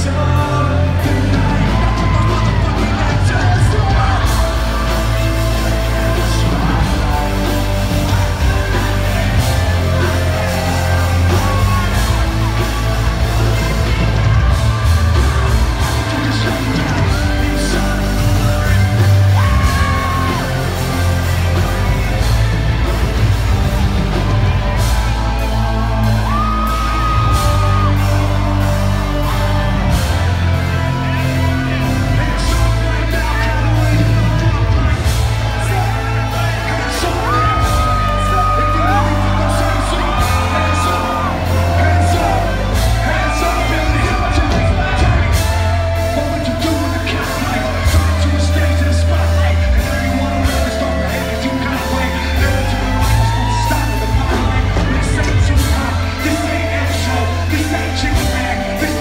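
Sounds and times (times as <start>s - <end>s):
crowd yelling: 0.0s - 59.0s
live rock band playing: 0.0s - 59.0s.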